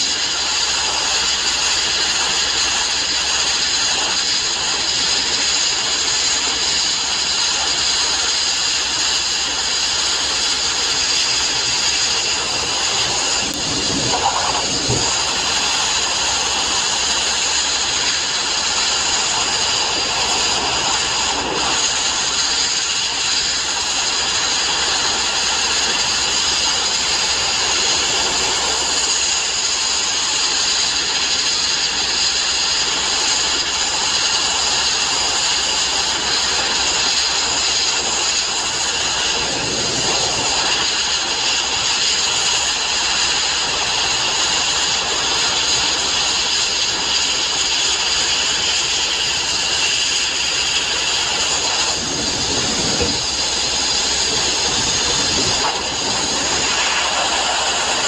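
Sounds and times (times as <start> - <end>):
sandblasting hiss: 0.0 - 58.0.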